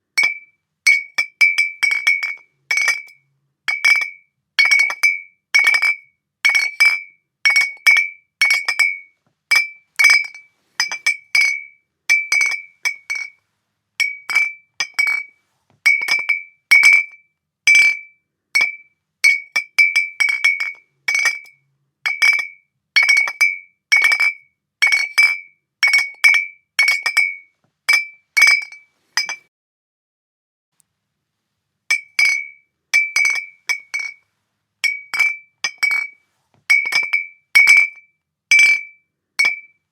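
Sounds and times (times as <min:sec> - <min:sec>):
glass bottles clinking: 0:00.2 - 0:06.0, 0:06.6 - 0:13.4, 0:14.0 - 0:15.3, 0:15.9 - 0:17.1, 0:18.6 - 0:21.5, 0:22.1 - 0:29.4, 0:31.9 - 0:34.2, 0:34.8 - 0:39.7.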